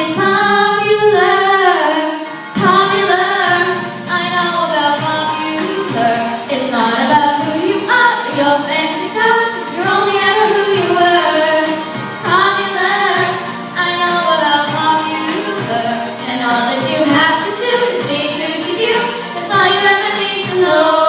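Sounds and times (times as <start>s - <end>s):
children singing: 0.0s - 21.0s.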